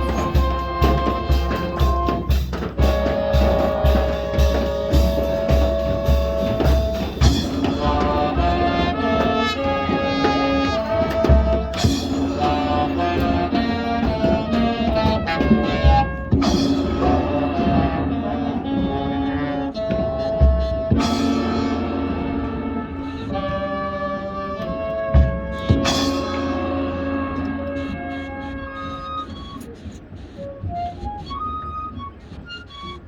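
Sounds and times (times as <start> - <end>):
low drum beats: 0.0 - 32.3
marching band playing: 0.0 - 33.0.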